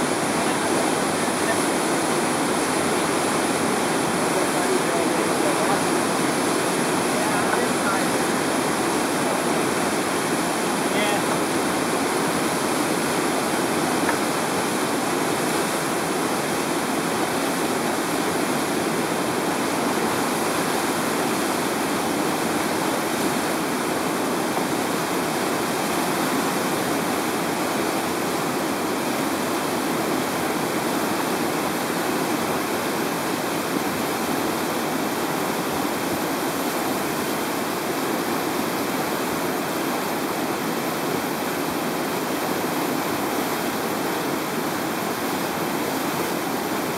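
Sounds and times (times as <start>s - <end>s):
whitewater rapid rushing: 0.0s - 46.9s.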